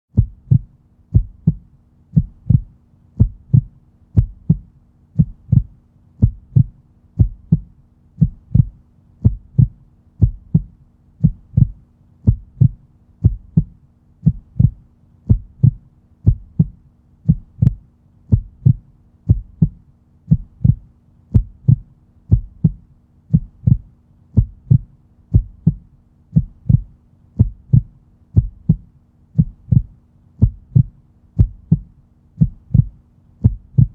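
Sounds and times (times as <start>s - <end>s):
heartbeat thumps: 0.1s - 33.9s
faint low hum: 0.2s - 33.9s.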